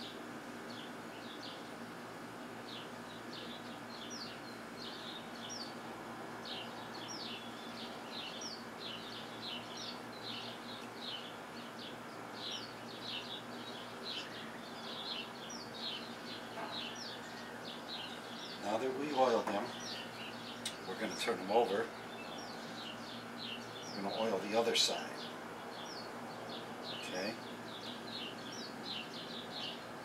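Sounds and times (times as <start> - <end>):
low background hum: 0.0 - 30.0
small birds chirping: 0.0 - 30.0.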